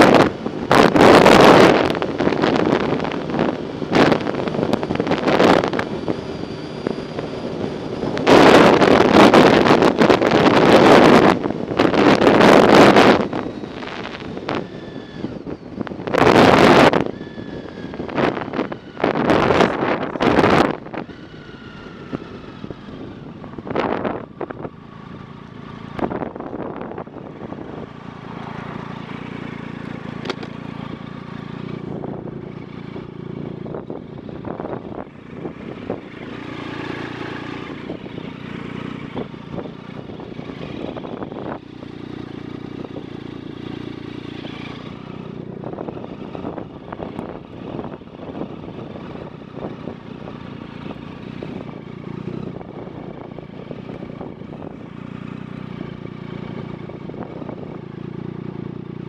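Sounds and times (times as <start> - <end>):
bike riding hum: 0.0 - 59.0.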